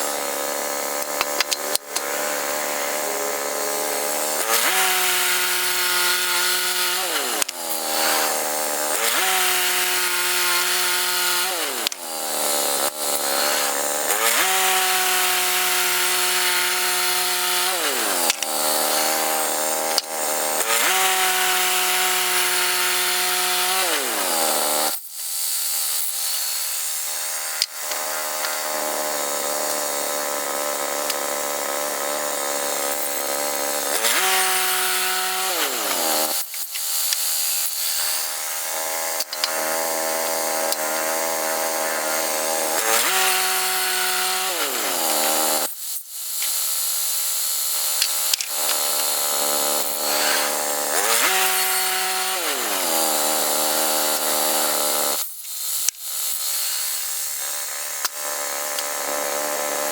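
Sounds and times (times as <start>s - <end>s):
band blade cutting log: 0.0s - 25.0s, 25.8s - 45.7s, 46.3s - 59.9s
bandsaw sawmill engine running: 0.0s - 25.0s, 25.7s - 45.7s, 46.3s - 59.9s.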